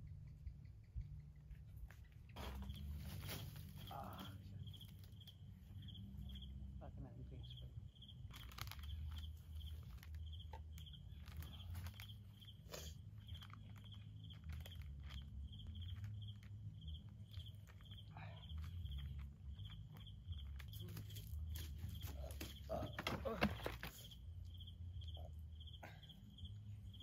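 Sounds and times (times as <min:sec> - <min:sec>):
constant low rumble: 0:00.0 - 0:27.0
cricket chirping: 0:02.0 - 0:27.0.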